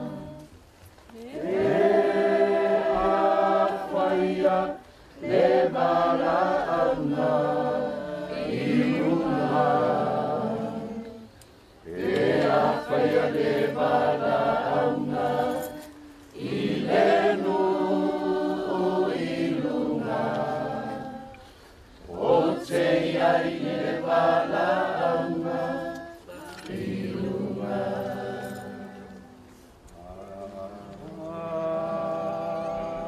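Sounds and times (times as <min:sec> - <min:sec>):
crowd singing a hymn: 0:00.0 - 0:33.0.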